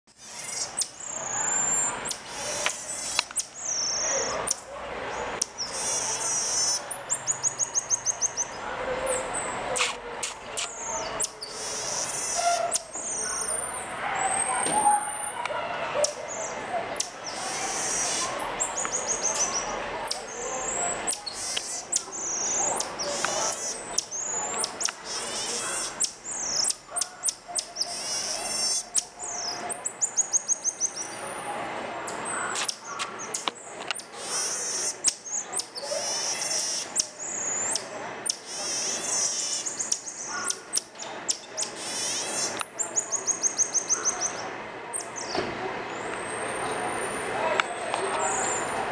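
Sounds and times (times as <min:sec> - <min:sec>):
marmoset high-pitched calls: 0:00.2 - 0:09.9, 0:10.6 - 0:15.4, 0:16.0 - 0:31.5, 0:34.0 - 0:45.4.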